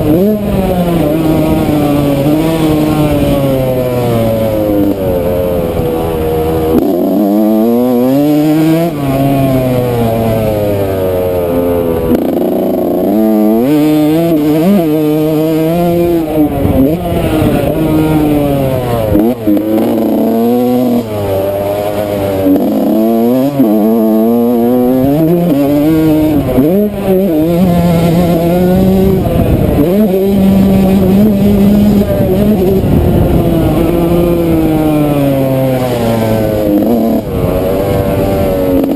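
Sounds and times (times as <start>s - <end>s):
two-stroke dirt bike engine revving: 0.0s - 38.9s.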